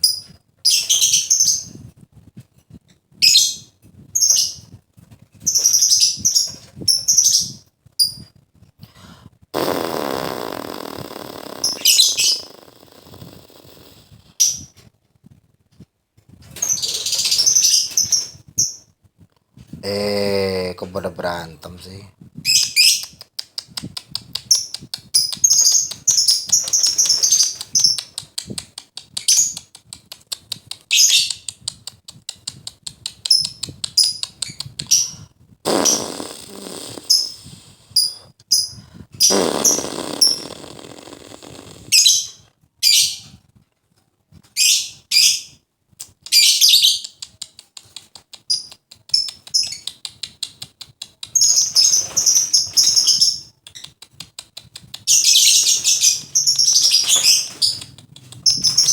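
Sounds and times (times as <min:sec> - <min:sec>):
lovebirds chirping and chattering: 0:00.0 - 0:01.8, 0:03.2 - 0:04.7, 0:05.4 - 0:08.2, 0:09.6 - 0:14.8, 0:16.6 - 0:18.9, 0:19.9 - 0:43.2, 0:46.3 - 0:58.9.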